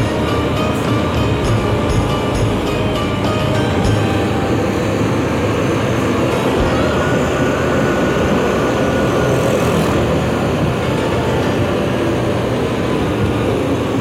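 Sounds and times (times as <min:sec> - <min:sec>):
motorcycle engine: 0:00.0 - 0:14.0
wind and road noise: 0:00.0 - 0:14.0.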